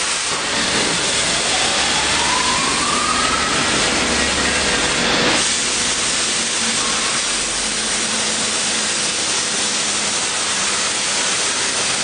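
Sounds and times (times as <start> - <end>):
loud static hiss: 0.0 - 12.0.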